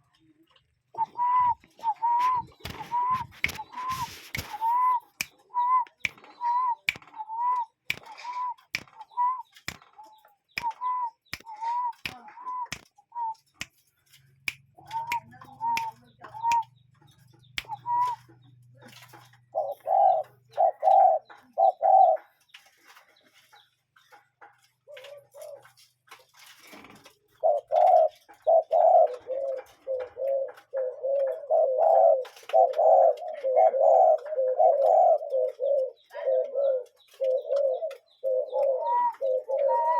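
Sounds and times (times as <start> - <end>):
cuckoo calling: 0.9 - 13.7, 14.8 - 22.4, 27.4 - 39.9.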